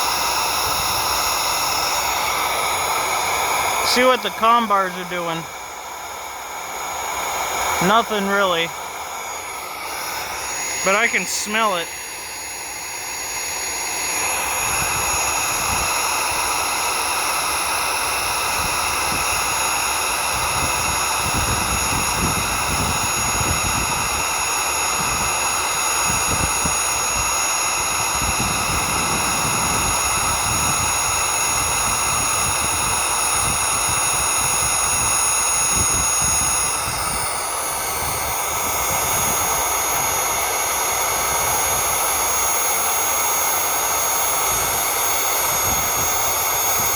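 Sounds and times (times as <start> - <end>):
vacuum cleaner motor whining: 0.0 - 46.9.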